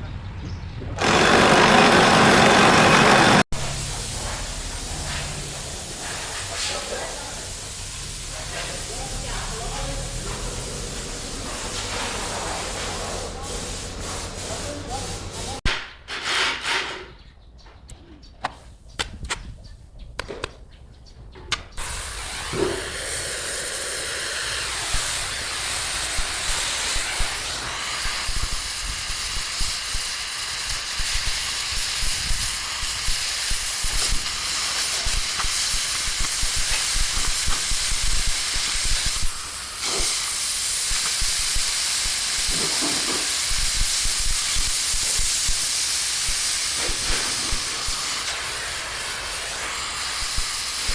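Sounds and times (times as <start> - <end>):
loud steady hiss: 1.0 - 15.6, 21.8 - 50.9.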